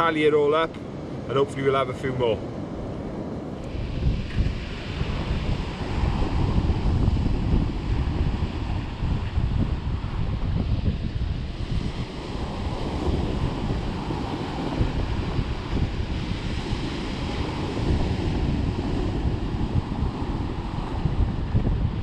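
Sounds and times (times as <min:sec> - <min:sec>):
sea surf breaking: 0:00.0 - 0:22.0
wind on microphone: 0:00.0 - 0:22.0.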